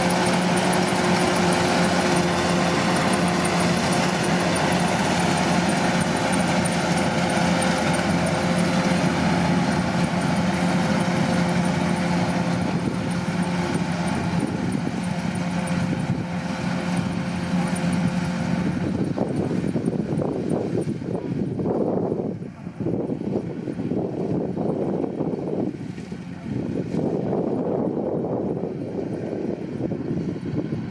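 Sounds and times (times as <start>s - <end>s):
combine harvester humming: 0.0s - 30.9s.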